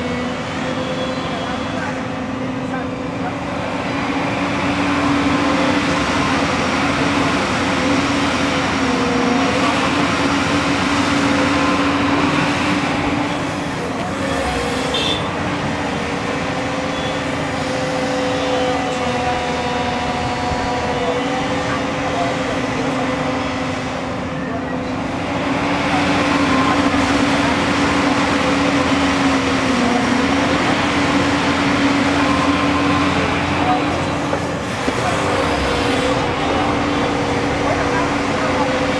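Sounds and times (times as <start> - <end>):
excavator diesel engine: 0.0 - 38.9
hydraulics whining: 0.1 - 38.9.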